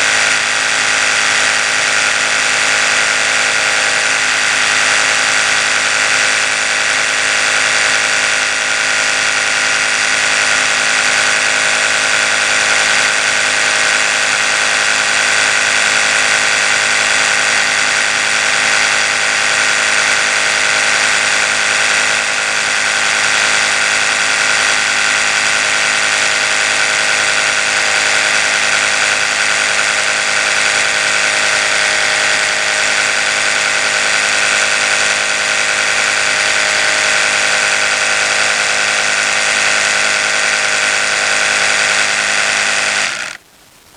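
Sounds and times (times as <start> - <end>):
electric toothbrush buzzing: 0.0 - 43.4.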